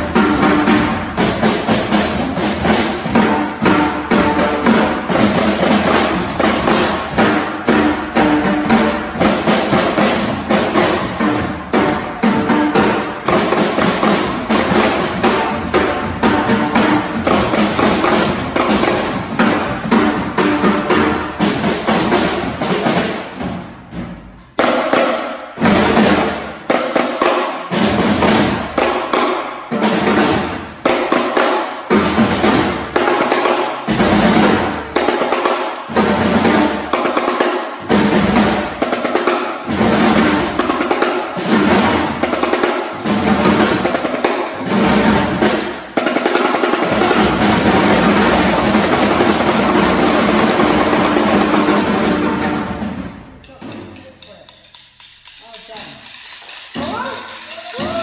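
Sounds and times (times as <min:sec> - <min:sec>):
children playing drums: 0:00.0 - 0:58.0
drum roll: 0:00.0 - 0:58.0.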